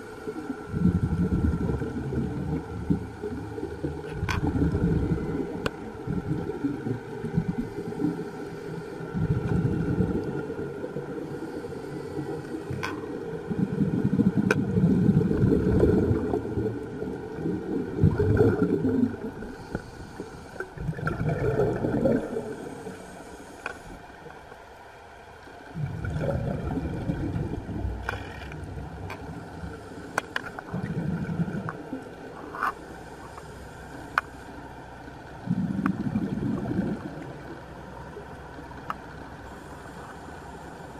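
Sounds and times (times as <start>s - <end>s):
scuba regulator bubbling exhaust: 0.0s - 24.0s, 25.6s - 34.6s, 35.3s - 38.2s.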